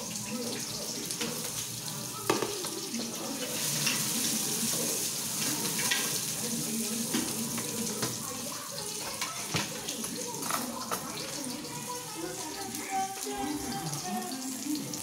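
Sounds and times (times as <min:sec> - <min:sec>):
food sizzling in pan: 0:00.0 - 0:15.0.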